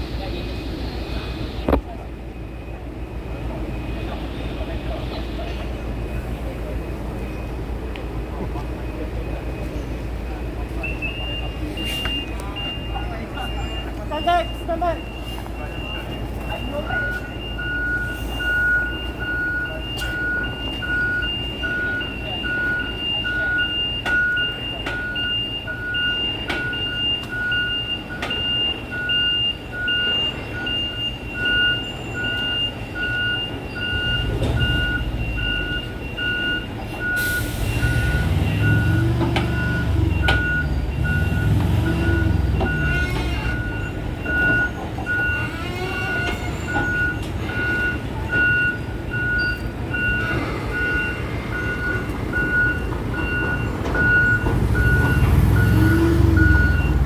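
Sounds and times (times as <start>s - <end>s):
diesel engine: 0.0s - 57.0s
reversing alarm beeping: 2.4s - 57.0s.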